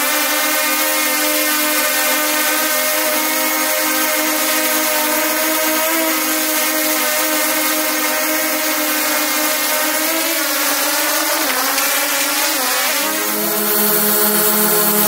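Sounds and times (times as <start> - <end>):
drone propellers buzzing whine: 0.0 - 15.0.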